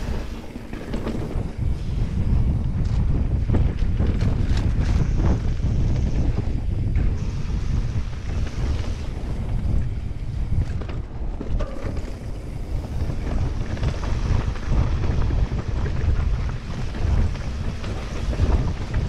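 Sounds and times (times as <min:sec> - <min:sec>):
bike rumbling and rattling on dirt: 0:00.0 - 0:19.0
wind rushing over microphone: 0:00.0 - 0:19.0.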